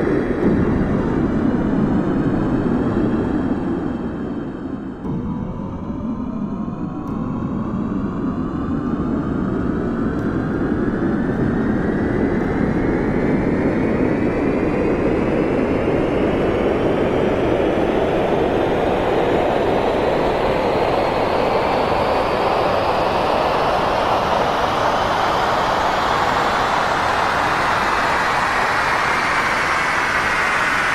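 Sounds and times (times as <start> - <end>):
airplane engines powering up: 0.0 - 30.9.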